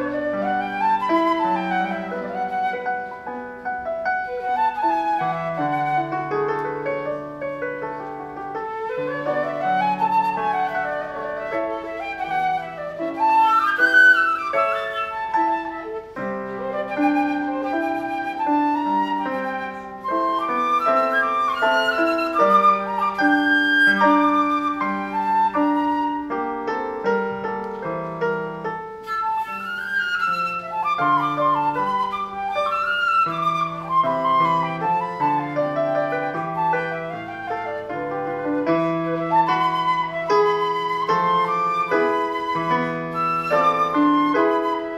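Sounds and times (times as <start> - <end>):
flute melody: 0.0 - 44.9
piano accompaniment: 0.0 - 44.9.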